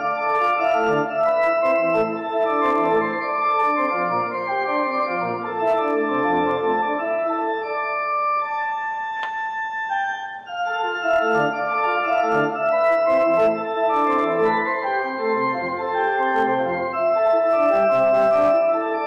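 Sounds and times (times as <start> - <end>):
low organ pedal notes: 0.0 - 9.0, 9.7 - 19.0
church organ chords: 0.0 - 19.0.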